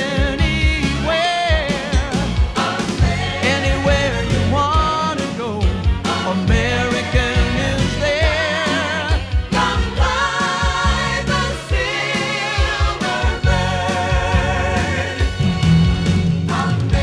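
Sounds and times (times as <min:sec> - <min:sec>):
steady drum beat and bass: 0:00.0 - 0:17.0.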